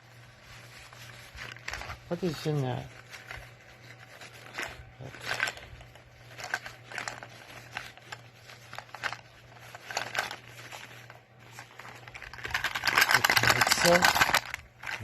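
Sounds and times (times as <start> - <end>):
low steady hum: 0.0 - 15.0
packaging crinkling and rustling: 0.0 - 15.0.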